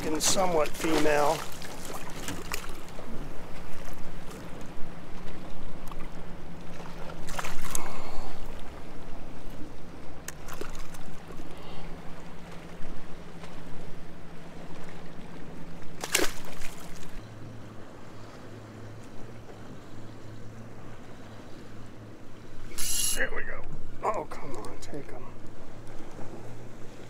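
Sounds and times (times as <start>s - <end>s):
boat motor hum: 0.0s - 27.0s
water sloshing and trickling: 0.0s - 27.0s.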